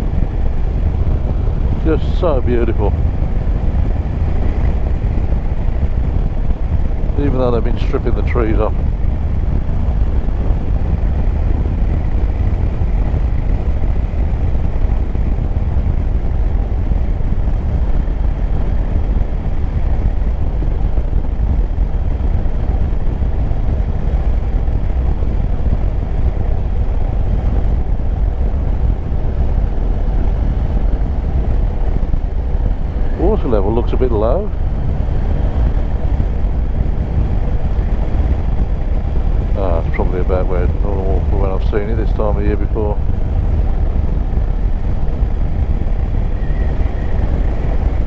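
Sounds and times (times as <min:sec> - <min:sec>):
motorcycle engine running: 0:00.0 - 0:48.0
wind noise on microphone: 0:00.0 - 0:48.0.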